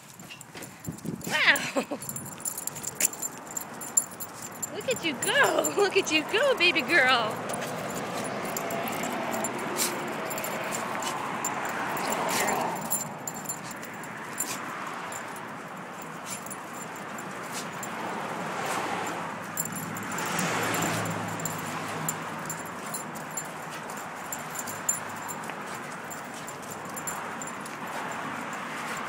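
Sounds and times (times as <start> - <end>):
collar tags jingling: 0.0 - 29.0.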